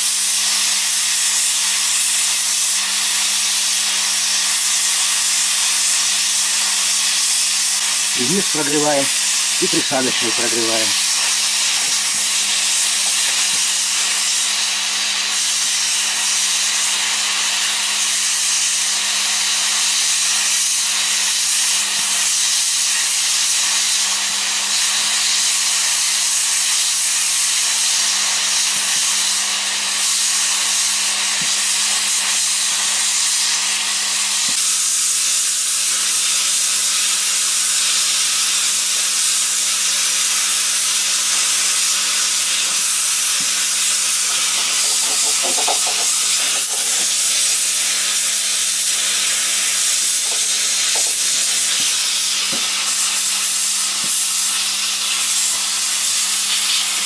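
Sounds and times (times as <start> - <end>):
hot air gun hissing: 0.0 - 57.0.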